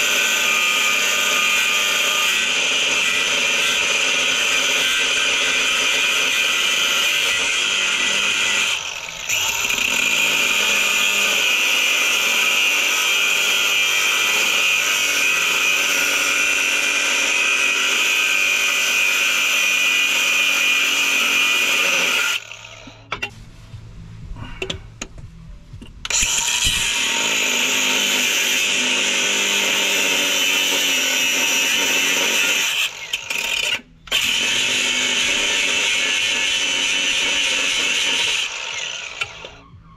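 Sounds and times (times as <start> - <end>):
power tool grinding metal: 0.0 - 23.3, 26.0 - 39.7.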